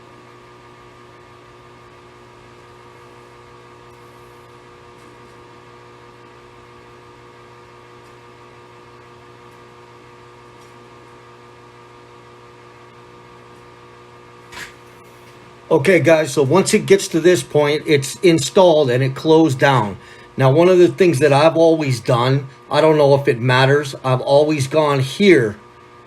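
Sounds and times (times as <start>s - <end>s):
fan or electrical hum: 0.0s - 26.0s.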